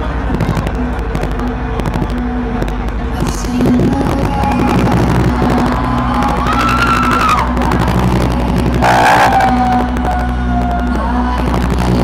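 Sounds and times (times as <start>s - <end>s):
distorted electronic dance music: 0.0s - 12.0s.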